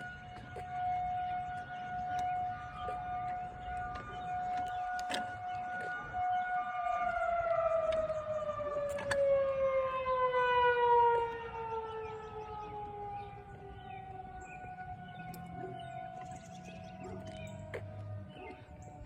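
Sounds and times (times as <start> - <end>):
warning siren winding down: 0.0 - 19.0.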